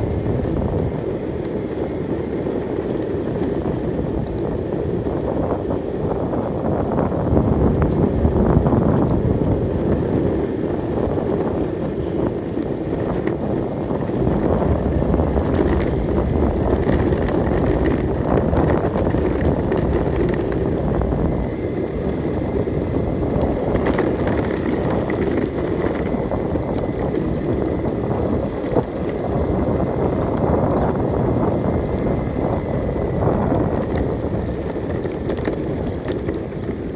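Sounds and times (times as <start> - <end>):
skateboard wheels rolling on asphalt: 0.0 - 36.9
wind buffeting microphone: 0.0 - 36.9.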